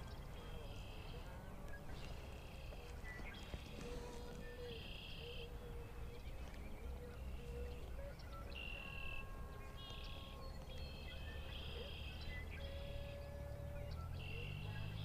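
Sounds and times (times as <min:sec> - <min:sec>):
low outdoor rumble: 0:00.0 - 0:15.0
songbirds singing: 0:00.0 - 0:15.0.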